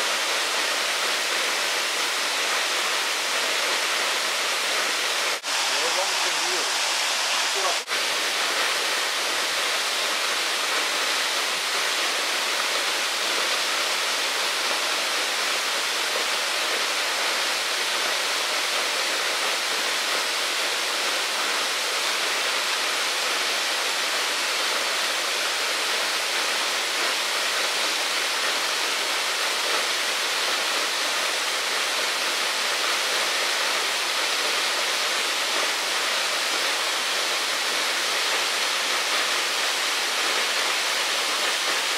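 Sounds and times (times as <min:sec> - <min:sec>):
flowing water: 0:00.0 - 0:41.9.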